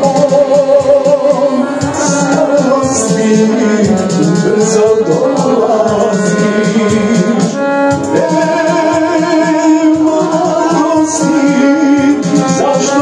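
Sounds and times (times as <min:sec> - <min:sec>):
button accordion playing melody: 0:00.0 - 0:13.0
man singing into microphone: 0:00.0 - 0:13.0
steady backing beat: 0:00.0 - 0:13.0.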